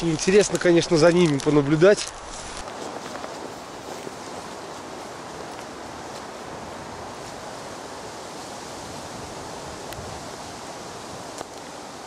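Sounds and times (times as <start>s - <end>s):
wind hissing: 0.0s - 12.0s.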